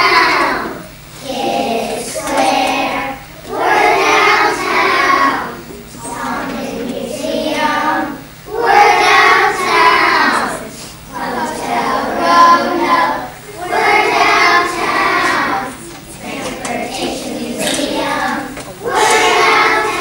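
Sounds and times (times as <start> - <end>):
children singing together: 0.0 - 20.0.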